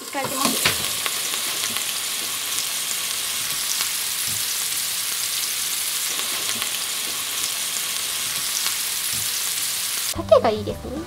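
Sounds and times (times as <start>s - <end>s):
food sizzling in oil: 0.0s - 10.6s.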